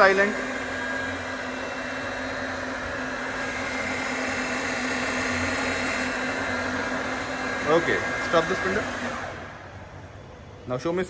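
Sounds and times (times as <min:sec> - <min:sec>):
milling machine spindle whirring: 0:00.0 - 0:10.8.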